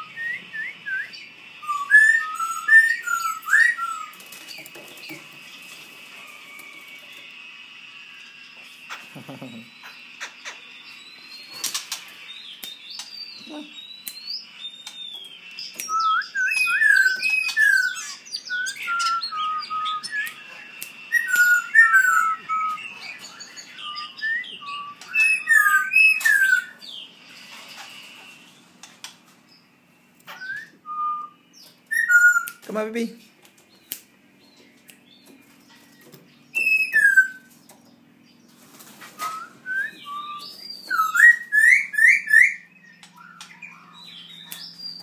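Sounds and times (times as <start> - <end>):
songbird singing: 0.0 - 45.0.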